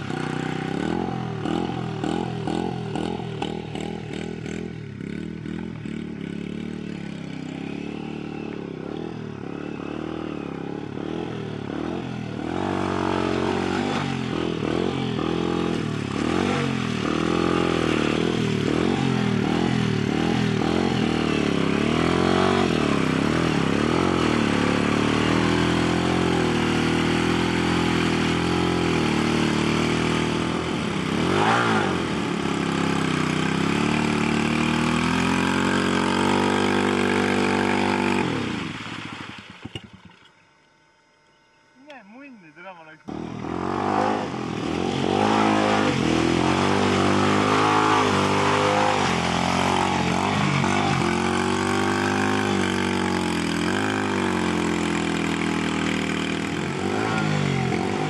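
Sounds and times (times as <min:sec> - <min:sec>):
quad engine revving: 0:00.0 - 0:40.0, 0:41.8 - 0:58.0.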